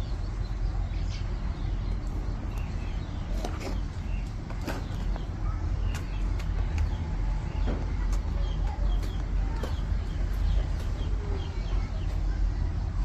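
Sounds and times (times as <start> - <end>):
steady low rumble: 0.0 - 13.0
chickens clucking: 2.1 - 12.6.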